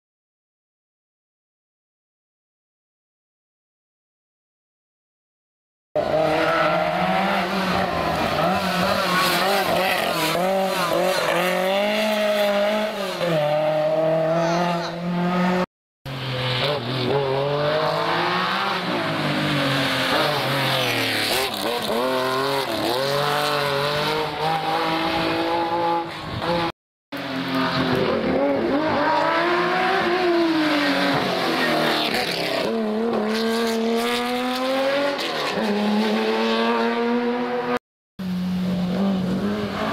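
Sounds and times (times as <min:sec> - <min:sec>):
rally car engines revving: 0:06.0 - 0:39.9.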